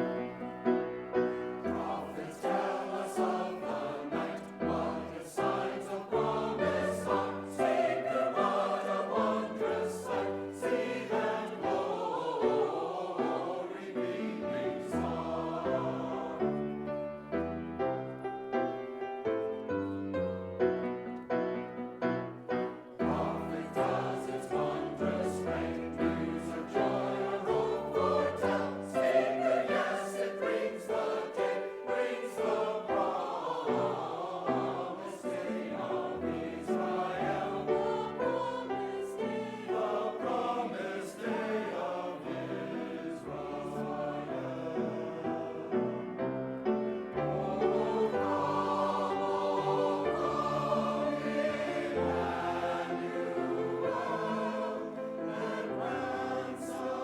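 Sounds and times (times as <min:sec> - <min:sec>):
choir singing: 0:00.0 - 0:57.0
piano accompaniment: 0:00.0 - 0:57.0.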